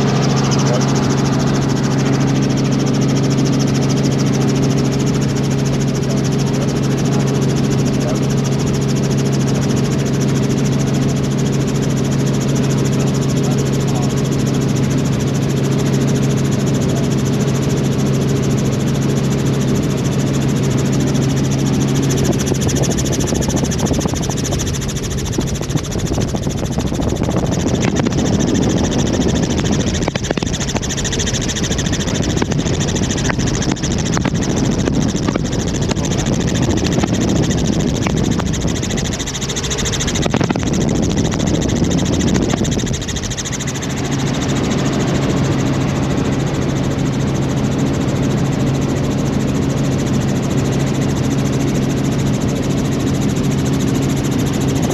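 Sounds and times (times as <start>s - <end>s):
helicopter engine and rotor noise: 0.0s - 54.9s.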